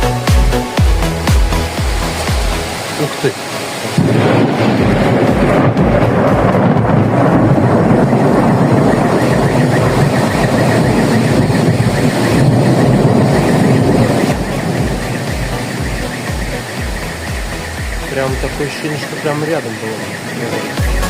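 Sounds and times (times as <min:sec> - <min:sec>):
thunder rolling: 0:03.7 - 0:20.8.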